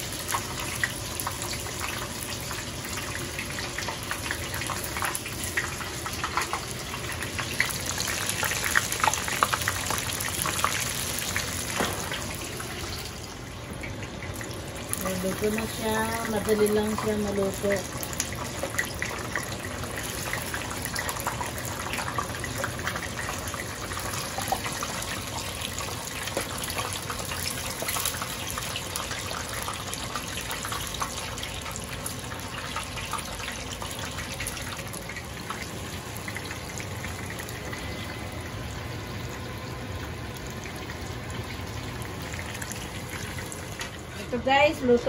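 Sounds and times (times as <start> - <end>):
hot oil sizzling: 0.0 - 45.0.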